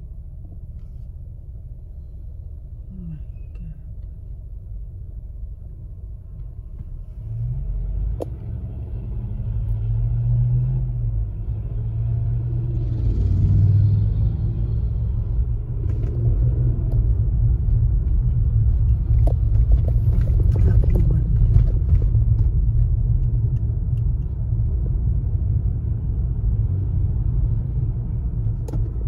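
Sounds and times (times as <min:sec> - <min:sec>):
car cabin road rumble: 0:00.0 - 0:29.0.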